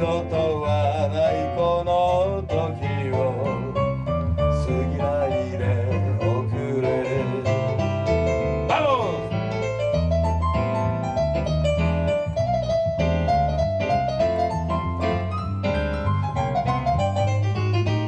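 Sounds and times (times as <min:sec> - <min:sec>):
steady bass line: 0:00.0 - 0:18.0.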